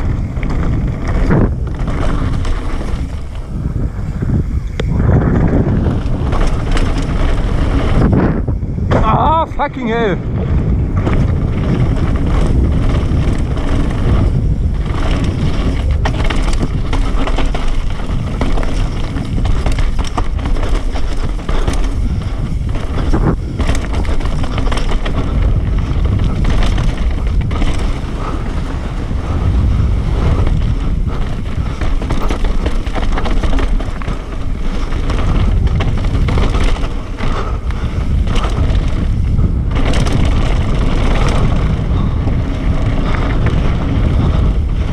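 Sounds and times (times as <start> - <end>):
bike rattling over bumps: 0.0 - 44.9
tyres rolling over gravel: 0.0 - 44.9
wind rushing over microphone: 0.0 - 44.9.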